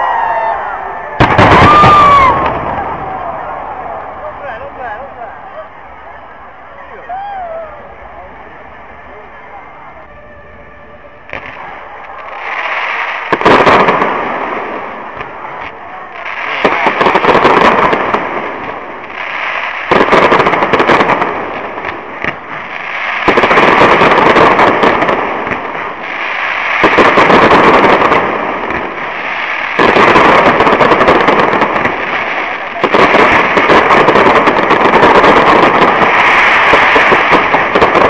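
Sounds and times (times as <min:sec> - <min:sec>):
fireworks bangs: 0:00.0 - 0:38.0
fireworks crackling: 0:00.0 - 0:38.0.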